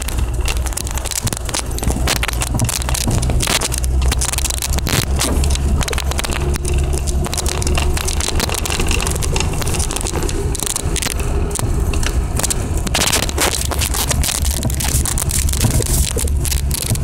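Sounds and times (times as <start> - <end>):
car engine drone: 0.0 - 17.0
knocks and rattles: 0.0 - 17.0.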